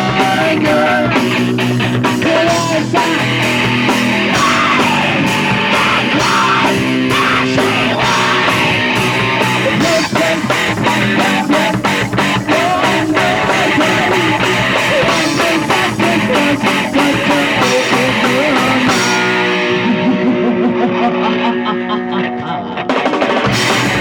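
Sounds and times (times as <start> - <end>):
pounding drums: 0.0 - 19.8, 22.9 - 24.0
distorted electric guitar: 0.0 - 24.0.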